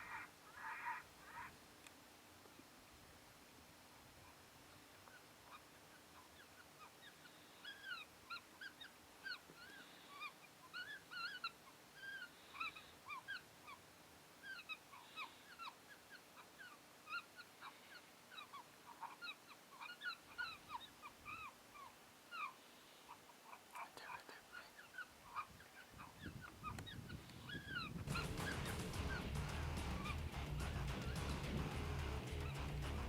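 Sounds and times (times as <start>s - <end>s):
coyotes yipping: 0.0s - 1.6s, 4.0s - 31.6s.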